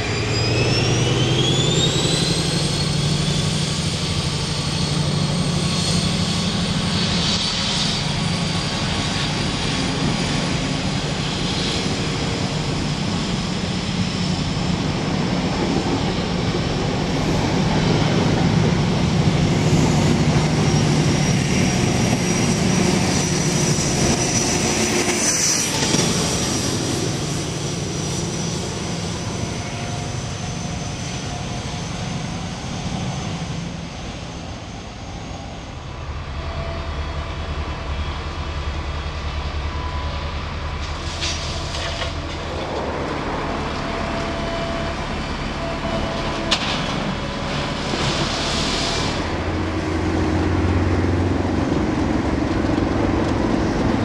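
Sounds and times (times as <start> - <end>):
express train passing at speed: 0.0 - 54.0
freight train rumbling by: 0.0 - 54.0.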